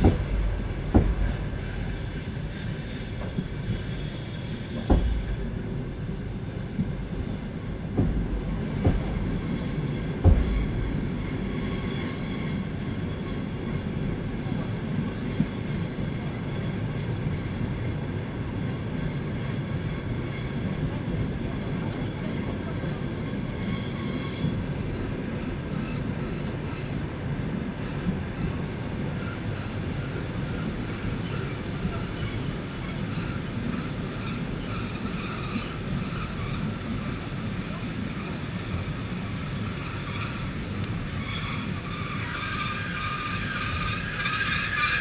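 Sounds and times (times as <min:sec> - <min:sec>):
train carriage rumbling: 0:00.0 - 0:45.0.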